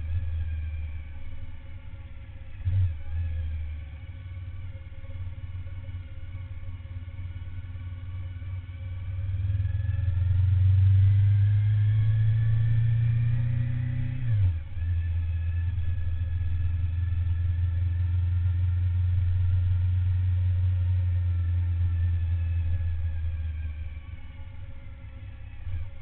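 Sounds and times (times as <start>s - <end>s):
motorcycle engine accelerating: 2.4s - 26.0s.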